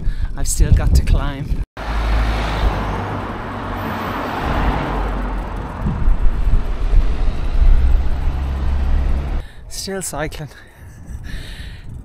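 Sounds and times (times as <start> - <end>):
wind buffeting microphone: 0.0 - 1.6, 2.2 - 12.0.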